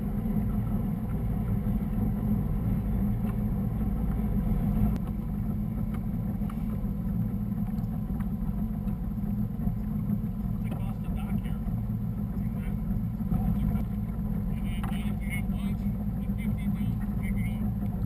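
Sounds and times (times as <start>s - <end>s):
motorboat engine running: 0.0s - 18.0s.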